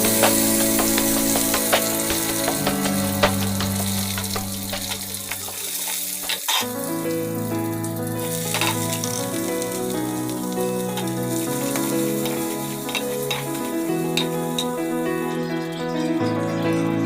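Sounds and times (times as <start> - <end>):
chicken sizzling in oil: 0.0 - 15.4
background music: 0.0 - 17.0.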